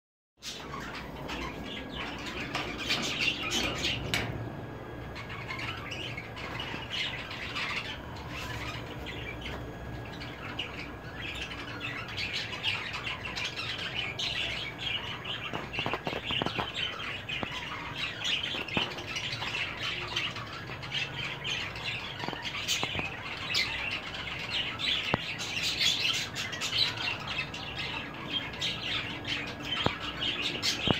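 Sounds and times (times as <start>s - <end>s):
birds chirping and squawking: 0.4s - 30.9s.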